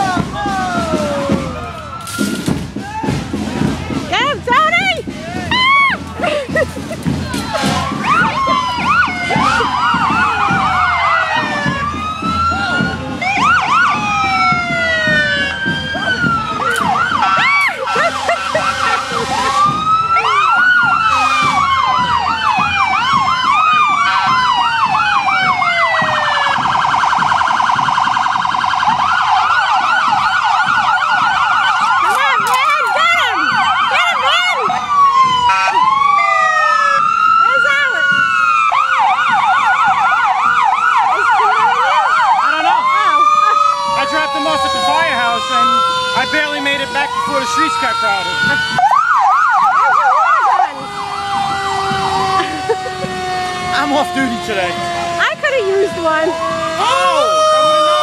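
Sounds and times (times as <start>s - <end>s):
emergency vehicle sirens wailing: 0.0s - 58.0s
rapid siren warble: 6.2s - 58.0s.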